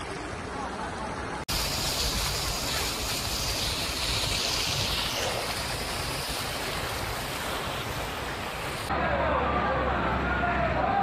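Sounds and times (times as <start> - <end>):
floodwater rushing: 0.0 - 8.9.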